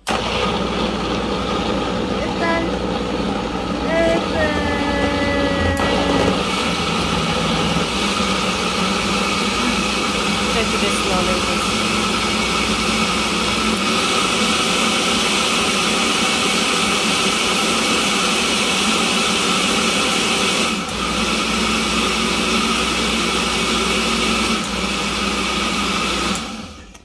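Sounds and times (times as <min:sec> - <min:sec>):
blender motor running: 0:00.0 - 0:26.9.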